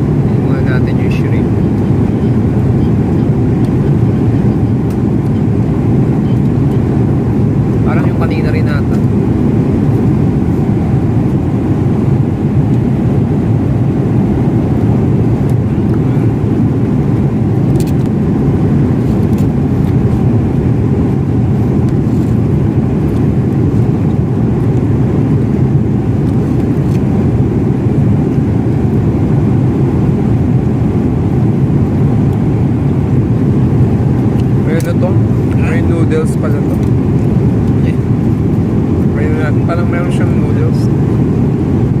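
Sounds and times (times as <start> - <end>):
airliner cabin engine roar: 0.0 - 42.0.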